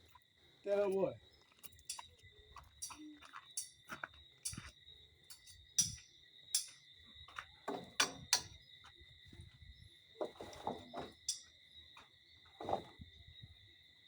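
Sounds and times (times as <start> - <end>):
night insects droning: 0.0 - 14.0.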